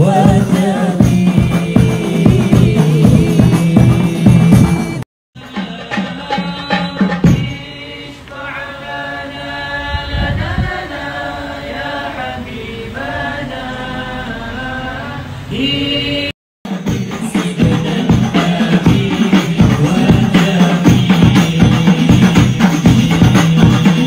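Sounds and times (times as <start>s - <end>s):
voices chanting in unison: 0.0s - 4.6s, 5.4s - 24.0s.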